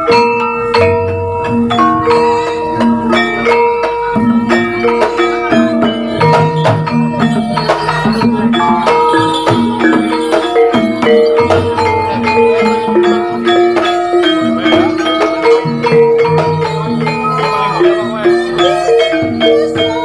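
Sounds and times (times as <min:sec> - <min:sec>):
mallet-struck metal instruments: 0:00.0 - 0:20.0.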